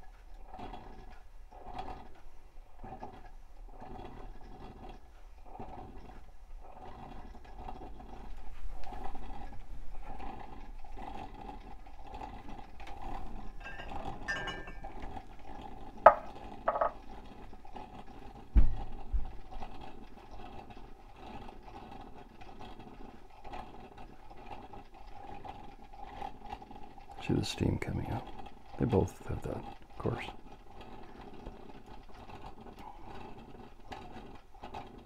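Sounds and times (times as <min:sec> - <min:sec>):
coffee percolator gurgling: 0:00.0 - 0:35.0.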